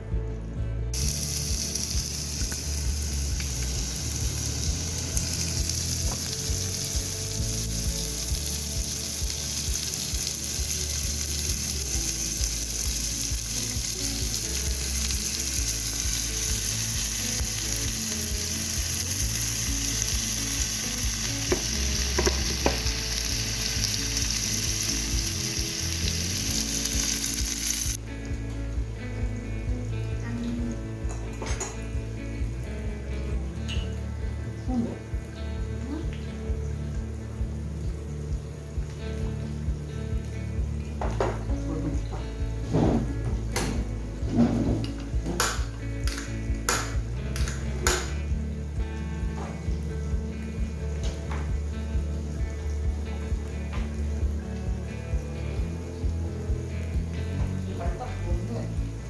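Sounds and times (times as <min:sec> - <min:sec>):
food sizzling in oil: 0:01.0 - 0:59.0.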